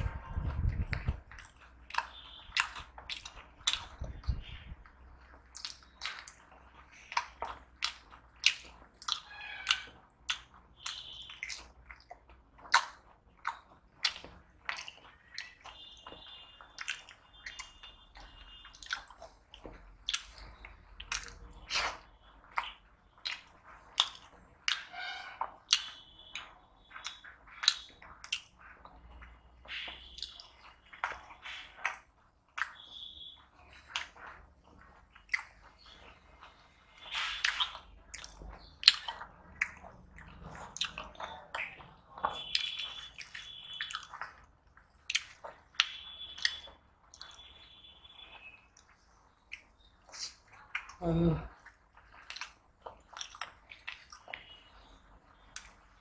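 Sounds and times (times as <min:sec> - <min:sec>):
man crunching and chewing food: 0:00.0 - 0:56.0.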